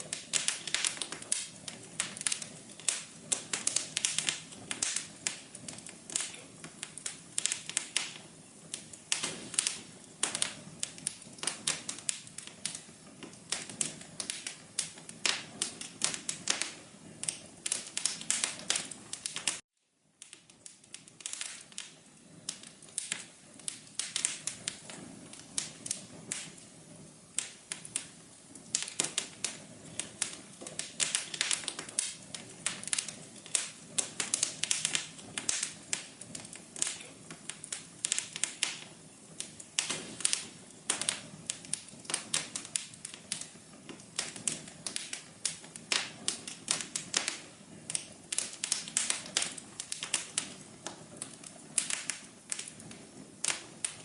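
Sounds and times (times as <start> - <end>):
fire crackling and popping: 0.0 - 54.0
soft hiss of fire: 0.0 - 54.0.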